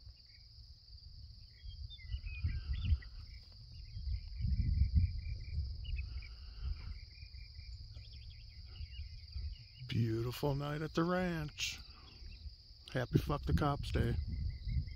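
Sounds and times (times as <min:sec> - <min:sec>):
insects chirring: 0:00.0 - 0:14.9
short insect chirps: 0:00.0 - 0:14.9.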